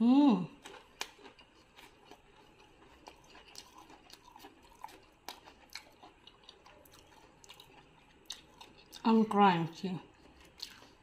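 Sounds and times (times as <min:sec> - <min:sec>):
chewing crunchy food: 0:00.4 - 0:11.0.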